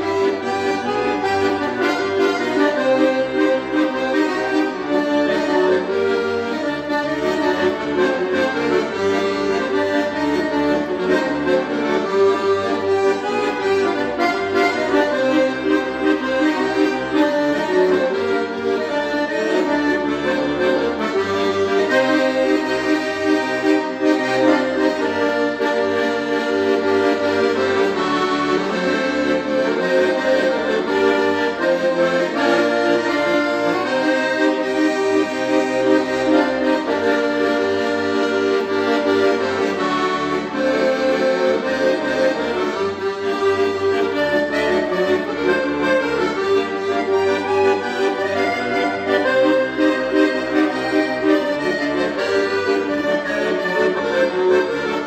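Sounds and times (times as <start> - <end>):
button accordion playing a tune: 0.0 - 55.0.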